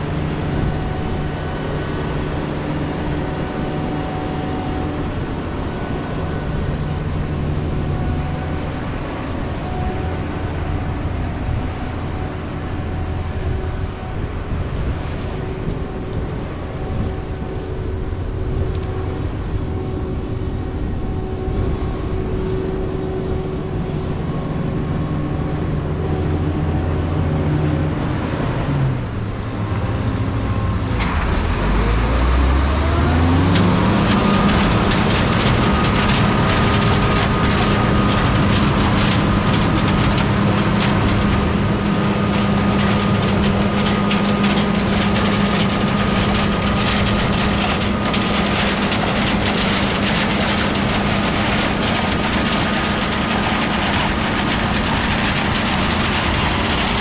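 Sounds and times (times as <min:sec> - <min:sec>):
diesel farm machinery running: 0:00.0 - 0:57.0.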